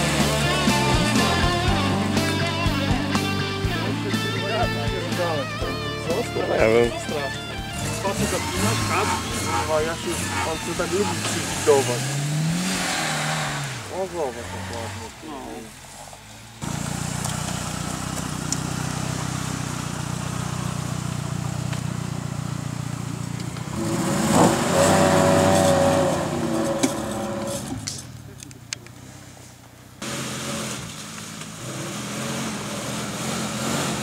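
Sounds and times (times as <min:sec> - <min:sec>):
off-road vehicle engine under load: 0:00.0 - 0:34.0.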